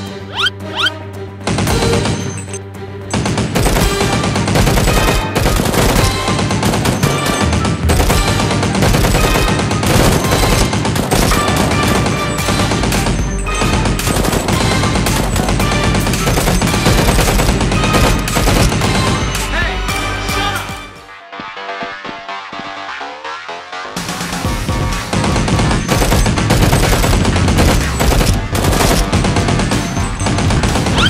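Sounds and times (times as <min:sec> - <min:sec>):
background music: 0:00.0 - 0:31.0
rapid gunfire: 0:01.4 - 0:19.4, 0:24.0 - 0:31.0.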